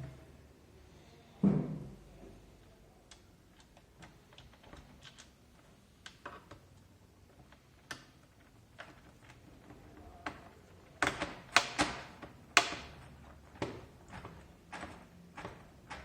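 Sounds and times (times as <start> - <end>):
small parts clicking and tapping: 3.0 - 16.0.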